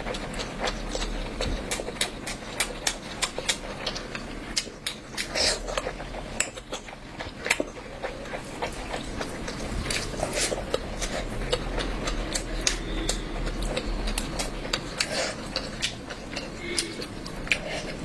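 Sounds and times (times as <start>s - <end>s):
steady low hum: 0.0s - 18.0s
wet chewing and mouth smacks: 0.0s - 18.0s.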